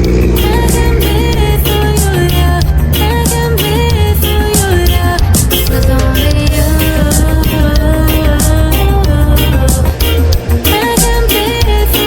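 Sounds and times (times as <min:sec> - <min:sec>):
reggae music with heavy bass: 0:00.0 - 0:12.0.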